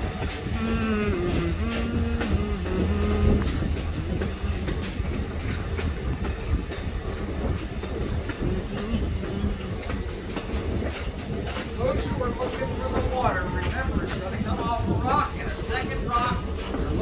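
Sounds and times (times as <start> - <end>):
train rumbling on track: 0.0 - 17.0
wheels clicking over rail joints: 0.0 - 17.0.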